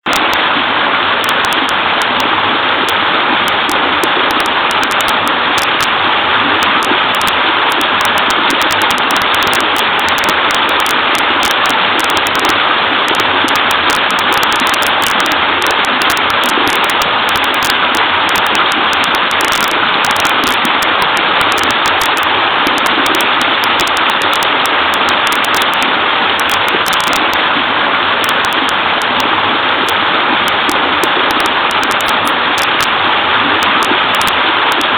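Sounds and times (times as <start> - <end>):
waterfall pouring into creek: 0.0 - 34.9.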